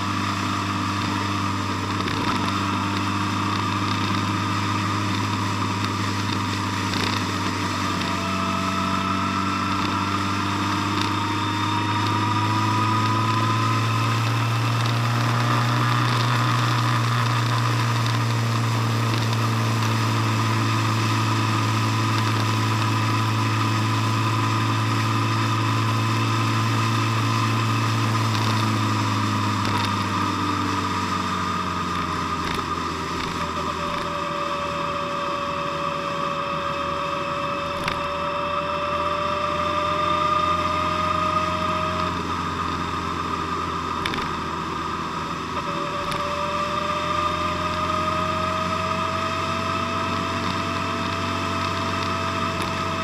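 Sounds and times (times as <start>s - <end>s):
road and wind noise: 0.0s - 53.0s
vehicle engine cruising: 0.0s - 53.0s.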